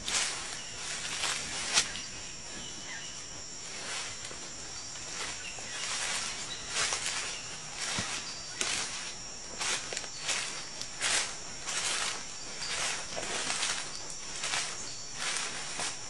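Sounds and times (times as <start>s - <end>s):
footsteps crunching through undergrowth: 0.0s - 16.0s
insect chorus: 0.0s - 16.0s.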